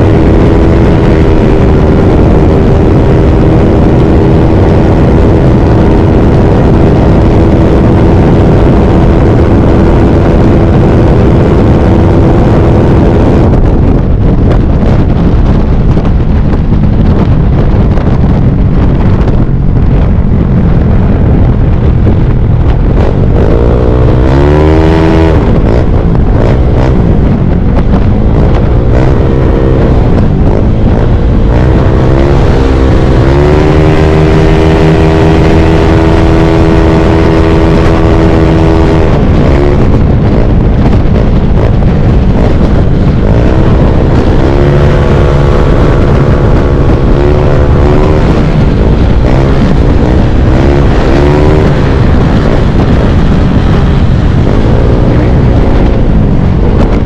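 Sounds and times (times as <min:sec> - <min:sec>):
scooter engine droning: 0:00.0 - 0:57.0
wind rushing over microphone: 0:00.0 - 0:57.0.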